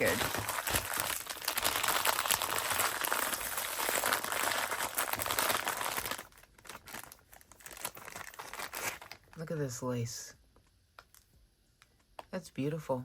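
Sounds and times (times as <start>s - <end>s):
packaging crinkling: 0.0s - 9.4s, 11.0s - 12.0s.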